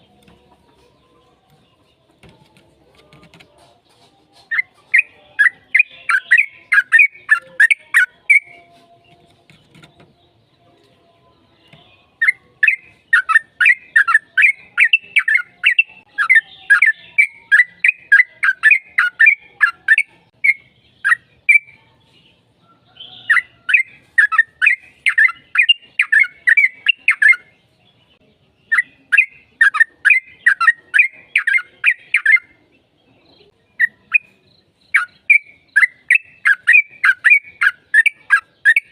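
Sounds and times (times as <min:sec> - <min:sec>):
bird singing chattering notes: 0:04.4 - 0:10.4, 0:11.6 - 0:21.8, 0:23.0 - 0:32.6, 0:33.3 - 0:38.9.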